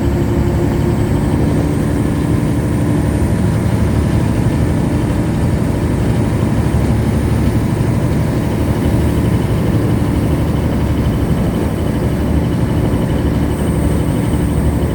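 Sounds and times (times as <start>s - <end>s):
boat engine rumbling: 0.0s - 14.9s.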